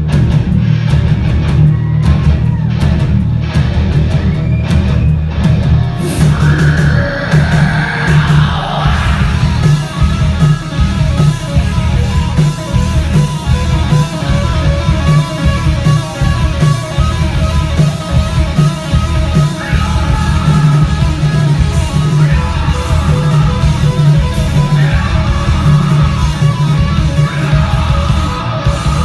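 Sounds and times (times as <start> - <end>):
heavy metal band playing live: 0.0 - 29.0.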